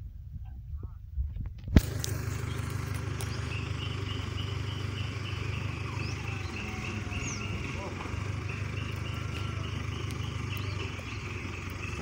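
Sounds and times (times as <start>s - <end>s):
diesel engine idling: 1.8s - 12.0s.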